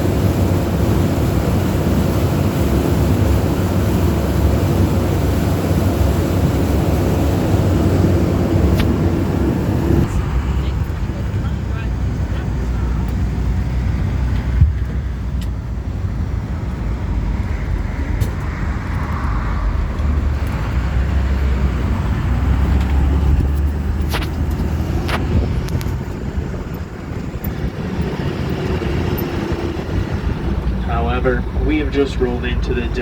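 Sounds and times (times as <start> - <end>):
boat engine rumble: 0.0 - 33.0.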